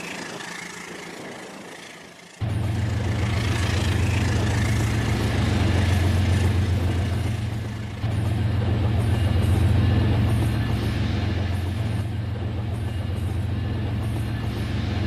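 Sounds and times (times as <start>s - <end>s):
model train running: 0.0s - 15.0s.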